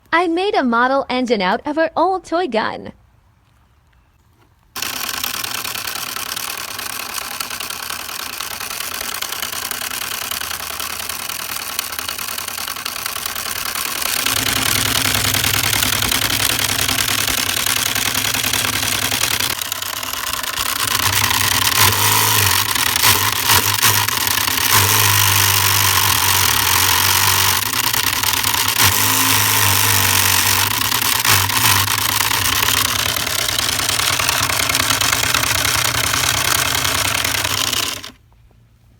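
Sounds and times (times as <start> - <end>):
model engine whirring and rattling: 4.8 - 38.2.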